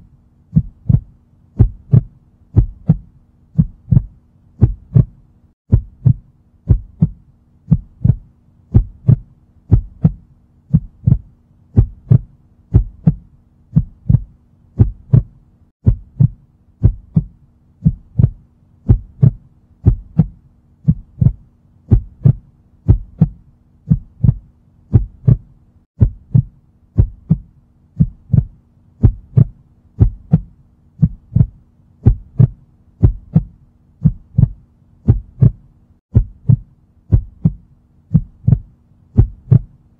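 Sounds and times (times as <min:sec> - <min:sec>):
heartbeat thumps: 0:00.0 - 0:39.8
faint steady hum: 0:00.0 - 0:39.9.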